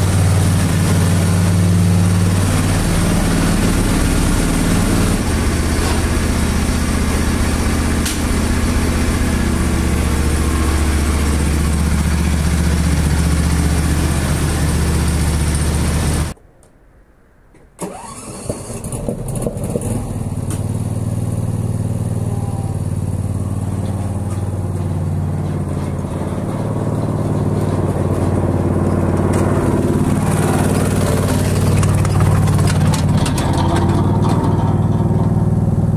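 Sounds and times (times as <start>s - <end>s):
ride-on mower engine running: 0.0s - 16.4s, 17.9s - 35.9s.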